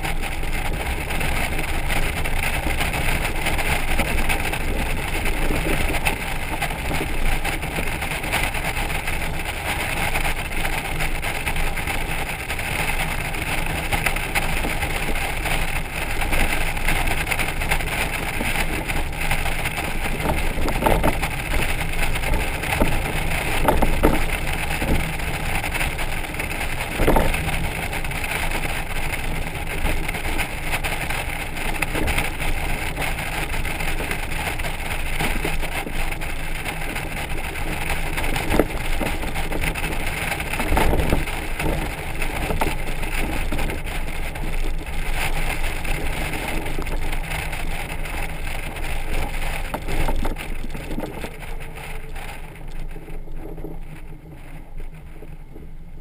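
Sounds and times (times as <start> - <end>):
motorcycle engine: 0.0 - 56.0
road noise: 0.0 - 56.0.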